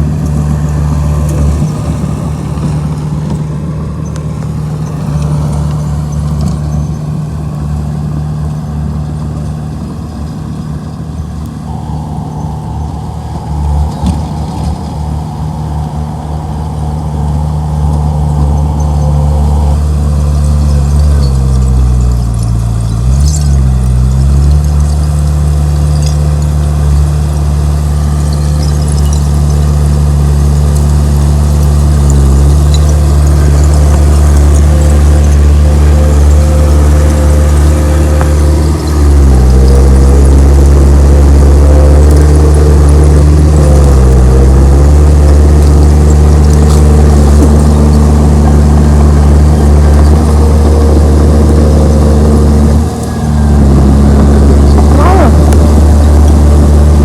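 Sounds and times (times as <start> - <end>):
bulldozer diesel engine lugging: 0.0 - 57.0.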